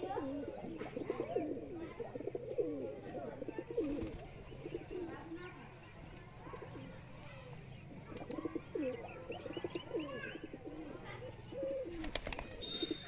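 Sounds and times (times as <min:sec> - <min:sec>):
pigeons cooing: 0:00.0 - 0:05.7, 0:06.3 - 0:13.0.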